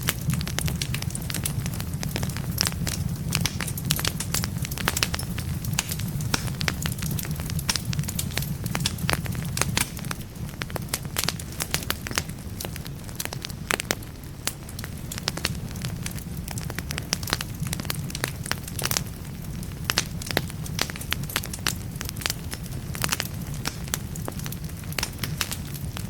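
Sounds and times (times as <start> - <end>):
log fire crackling: 0.0 - 26.0
low rumble of fire: 0.0 - 26.0.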